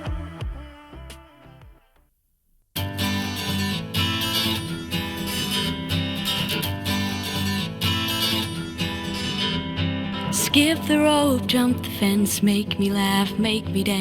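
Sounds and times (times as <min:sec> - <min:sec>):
acoustic guitar strumming: 0:02.8 - 0:14.0.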